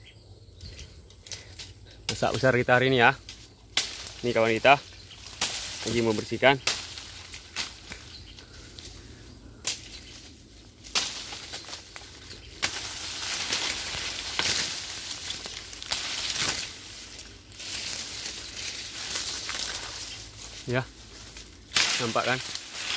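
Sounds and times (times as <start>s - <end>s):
stems snapping: 0.6s - 22.9s
dry leaves rustling and crackling: 1.2s - 22.9s.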